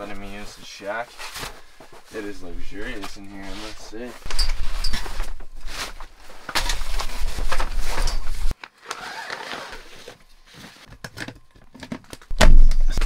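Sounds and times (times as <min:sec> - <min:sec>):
camp cot fabric and frame rustling: 0:00.0 - 0:10.9.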